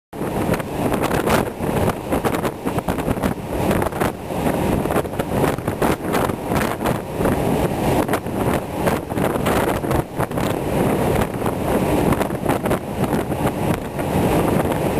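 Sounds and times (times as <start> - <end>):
wind buffeting microphone: 0.2 - 14.9.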